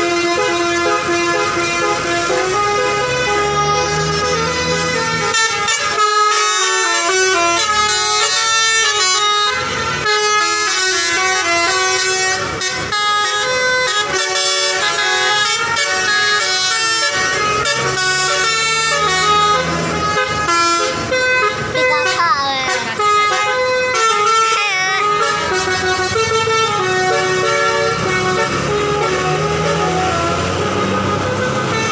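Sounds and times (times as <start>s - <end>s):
musical bus air horns: 0.0s - 31.9s.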